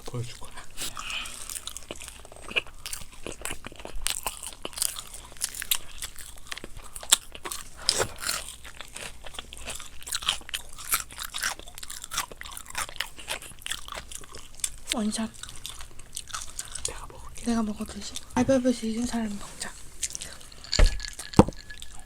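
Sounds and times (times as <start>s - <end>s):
crunching fried chicken: 0.0s - 18.2s.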